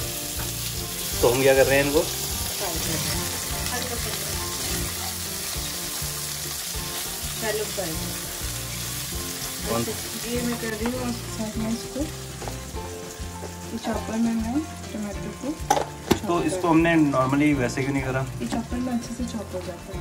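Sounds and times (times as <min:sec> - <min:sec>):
background music: 0:00.0 - 0:20.0
potatoes sizzling in oil: 0:00.0 - 0:20.0.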